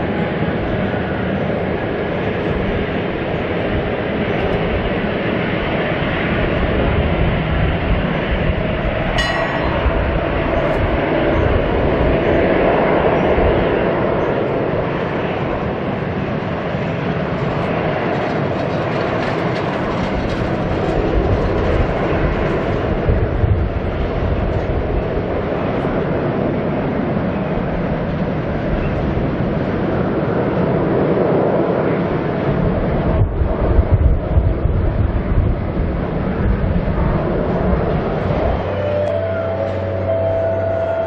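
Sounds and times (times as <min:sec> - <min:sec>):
jet engines at low thrust: 0:00.0 - 0:41.0.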